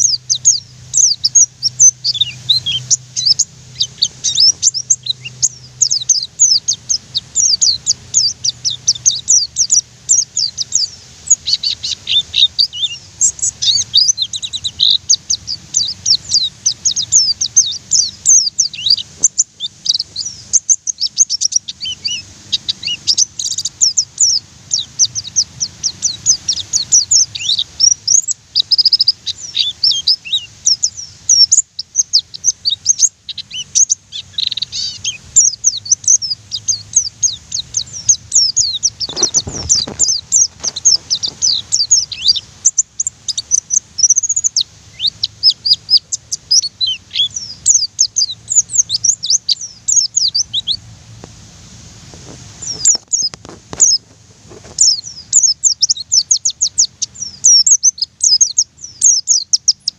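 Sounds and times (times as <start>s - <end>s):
bird chirping rapidly: 0.0s - 50.9s, 52.6s - 54.0s, 54.8s - 59.9s.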